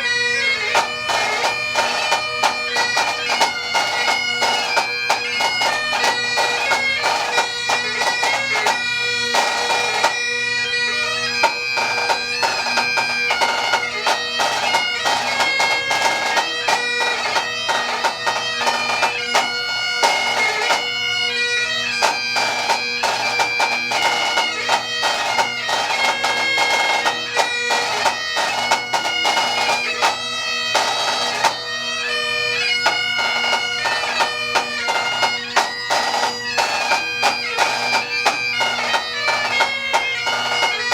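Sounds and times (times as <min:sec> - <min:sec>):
bagpipes playing a tune: 0:00.0 - 0:40.9.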